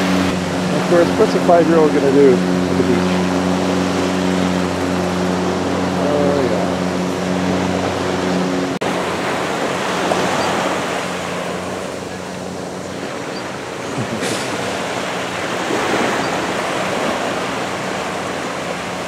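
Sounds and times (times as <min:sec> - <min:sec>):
low engine hum: 0:00.0 - 0:19.0
waves breaking on beach: 0:00.0 - 0:19.0.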